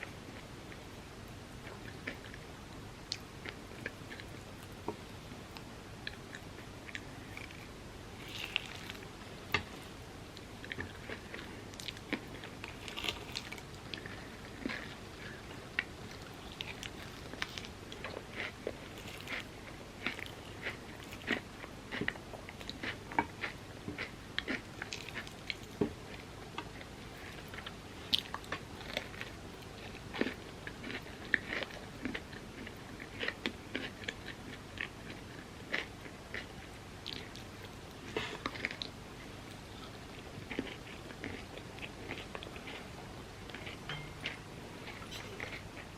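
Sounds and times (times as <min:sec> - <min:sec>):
chewing and crunching food: 0:00.0 - 0:45.9.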